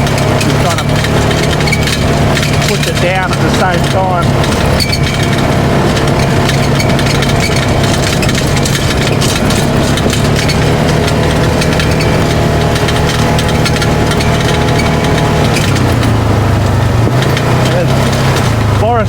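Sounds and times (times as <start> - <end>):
buggy clicks and rattles: 0.0 - 19.0
engine running at low speed: 0.0 - 19.0.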